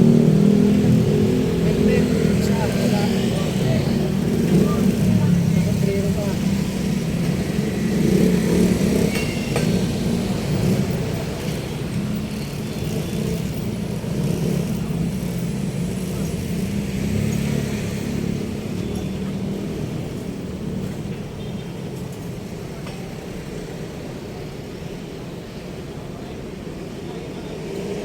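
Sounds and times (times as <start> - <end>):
traffic engine and road rumble: 0.0 - 28.0.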